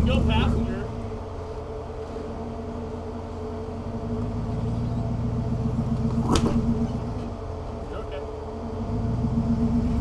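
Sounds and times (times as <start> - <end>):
engine running low and steady: 0.0 - 10.0.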